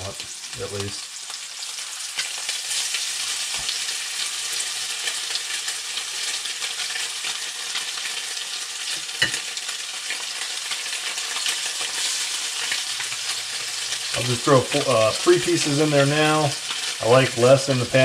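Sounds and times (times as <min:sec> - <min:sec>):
fish sizzling in skillet: 0:00.0 - 0:18.0.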